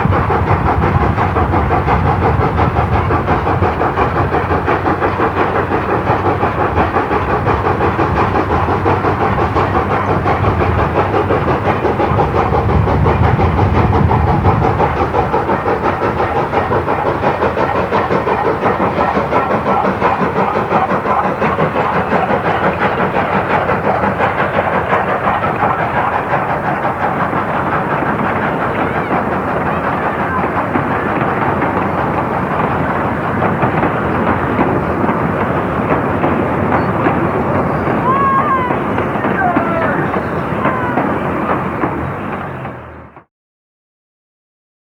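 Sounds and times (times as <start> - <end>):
steam locomotive exhaust beating: 0.0 - 43.3.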